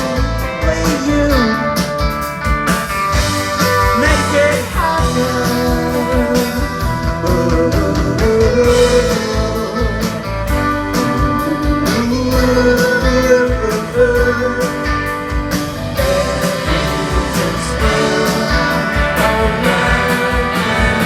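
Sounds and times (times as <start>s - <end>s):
bass guitar: 0.0s - 21.0s
electric guitar: 0.0s - 21.0s
steady drum beat: 0.0s - 21.0s.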